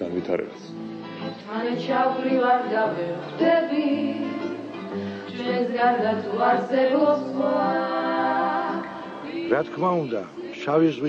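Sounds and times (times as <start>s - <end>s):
choir singing long notes: 1.4s - 11.0s.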